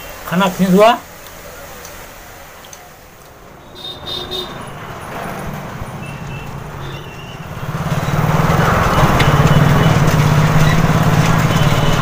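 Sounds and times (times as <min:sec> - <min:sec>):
vehicle engine running: 0:01.1 - 0:12.0.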